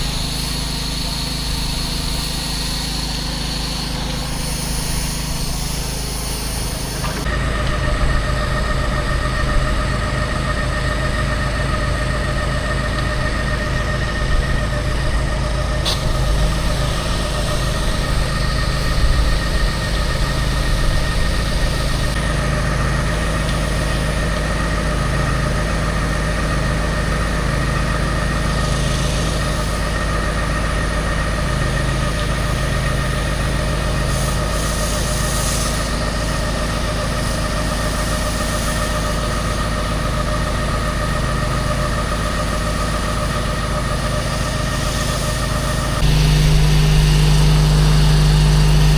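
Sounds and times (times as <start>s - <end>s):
gas engine running steadily: 0.0s - 48.9s.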